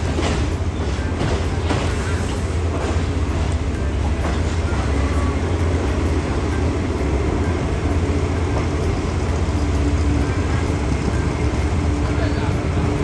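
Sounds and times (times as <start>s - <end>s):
train carriage rumbling on rails: 0.0s - 13.0s.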